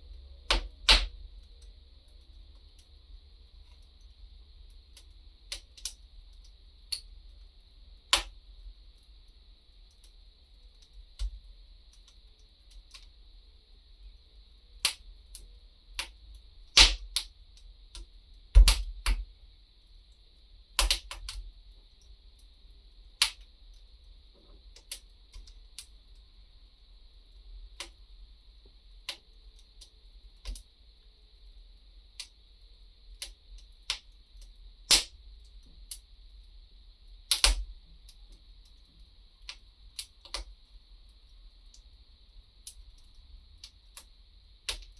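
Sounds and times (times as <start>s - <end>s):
faint steady hiss: 0.0s - 44.9s.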